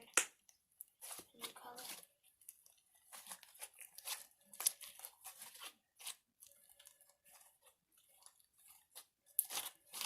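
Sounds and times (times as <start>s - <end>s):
slime crackling and popping: 0.0s - 10.0s.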